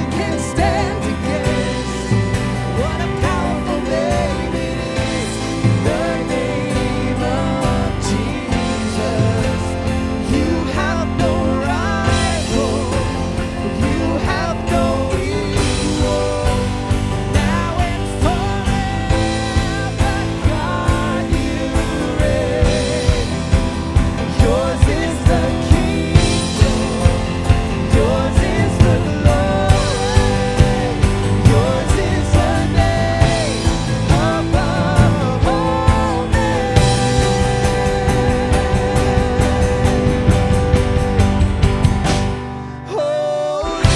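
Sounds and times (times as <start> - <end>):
steady drum beat: 0.0 - 42.6
bass: 0.0 - 43.9.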